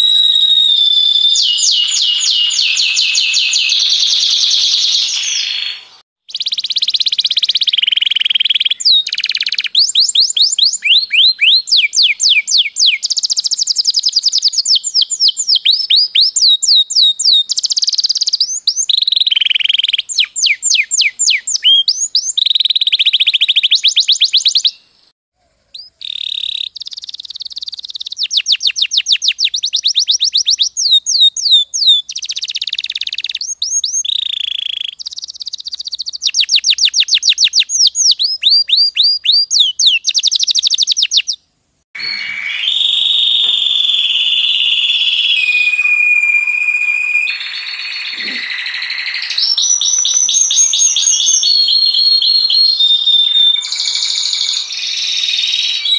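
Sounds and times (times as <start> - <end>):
canary singing trills: 0.0 - 25.0, 25.7 - 41.4, 42.0 - 55.9.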